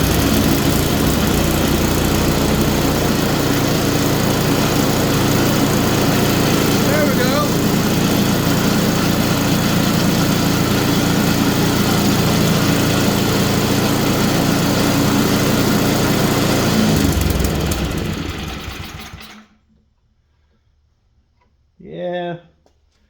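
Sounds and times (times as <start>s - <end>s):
snowblower engine running: 0.0s - 19.5s.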